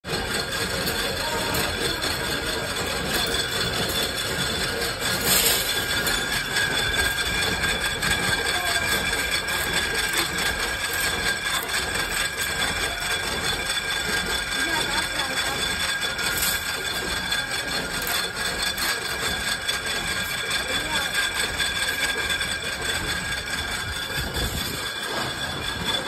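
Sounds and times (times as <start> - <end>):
machinery clattering: 0.0 - 26.0
machine whine: 0.1 - 26.0.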